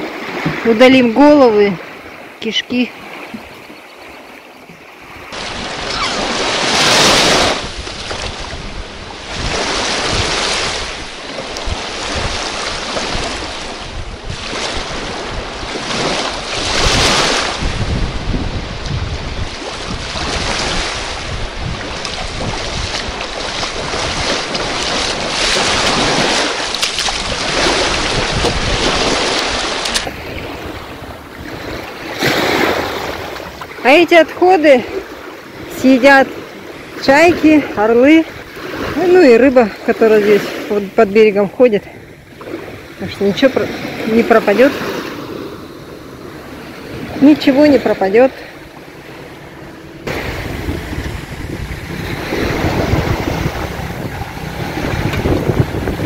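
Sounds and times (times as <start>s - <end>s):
wind buffeting microphone: 5.0s - 56.0s
surf washing up a sandy beach: 5.2s - 56.0s.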